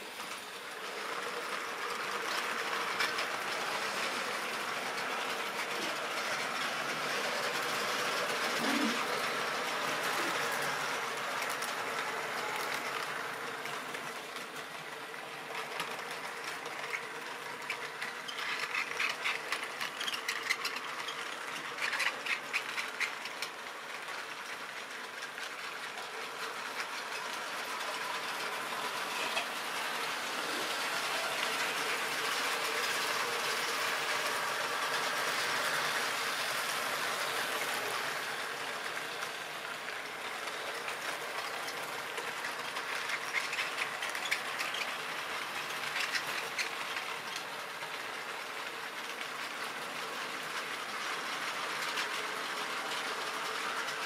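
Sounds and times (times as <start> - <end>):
model train motor whirring: 0.0 - 54.0
wheels clicking over rail joints: 0.0 - 54.0.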